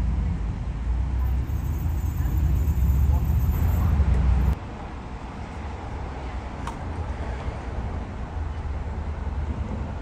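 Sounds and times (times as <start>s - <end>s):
outdoor street noise: 0.0s - 10.0s.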